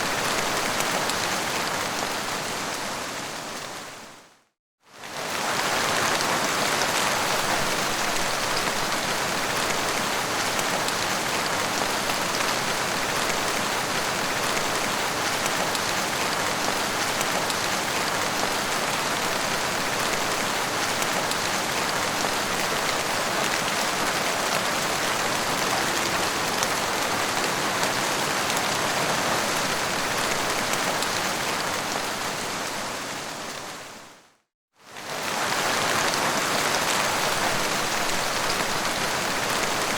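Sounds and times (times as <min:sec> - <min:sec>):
heavy rain falling: 0:00.0 - 0:04.0, 0:05.0 - 0:34.1, 0:34.9 - 0:39.9.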